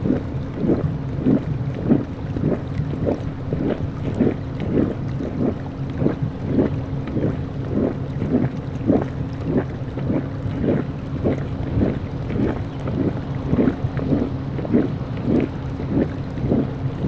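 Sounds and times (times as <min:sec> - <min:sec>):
hot spring water gurgling: 0:00.0 - 0:17.0
low rumble: 0:00.0 - 0:17.0.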